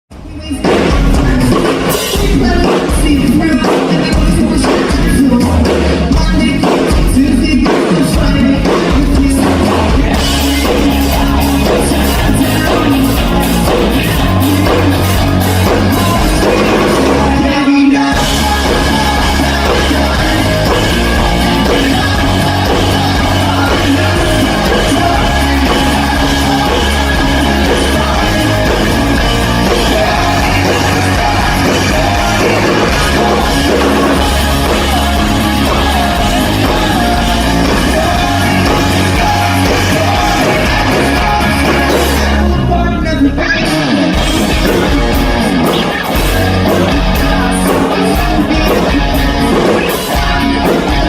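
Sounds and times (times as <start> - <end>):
person singing: 0.1 - 51.0
rock band playing loud: 0.1 - 51.0.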